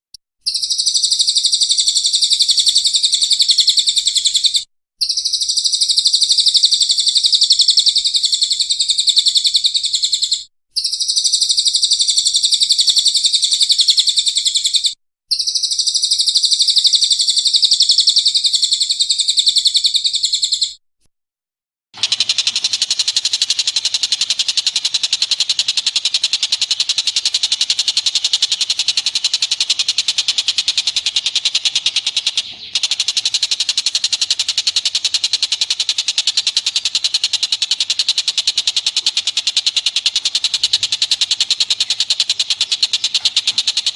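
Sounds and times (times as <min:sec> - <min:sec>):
rapid chattering bird call: 0:00.4 - 0:20.8, 0:22.0 - 0:43.9
rapid high bird trill: 0:00.4 - 0:20.8, 0:22.0 - 0:43.9.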